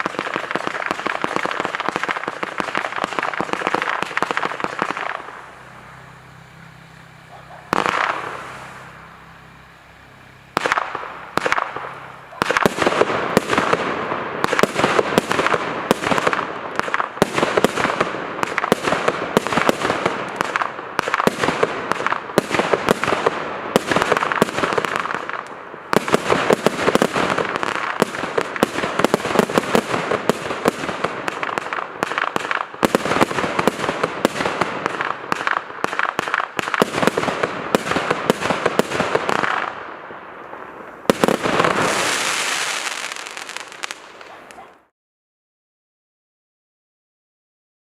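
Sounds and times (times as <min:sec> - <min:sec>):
firework bangs: 0:00.0 - 0:44.9
firework crackling pops: 0:00.0 - 0:44.9.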